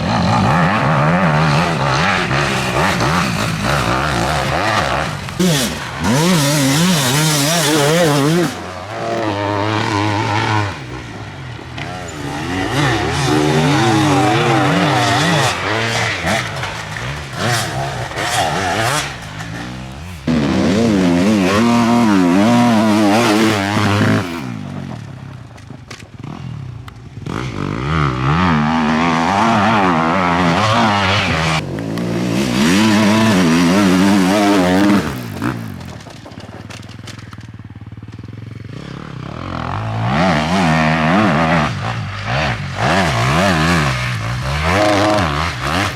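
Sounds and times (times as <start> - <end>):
motorcycles revving: 0.0 - 45.9.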